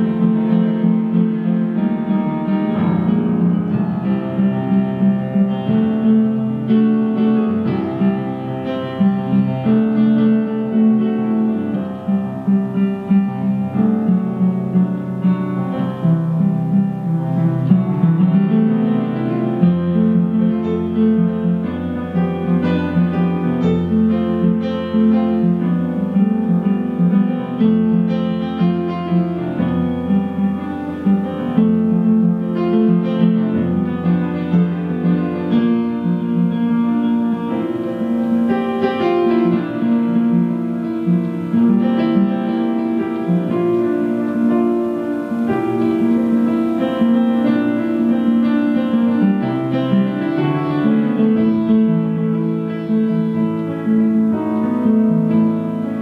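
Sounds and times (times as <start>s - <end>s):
instrumental film accompaniment: 0.0s - 56.0s.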